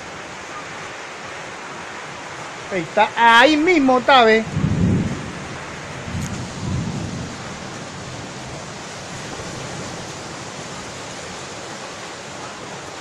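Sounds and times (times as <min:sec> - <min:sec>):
heavy rain: 0:00.0 - 0:13.0
strong storm wind: 0:00.0 - 0:13.0.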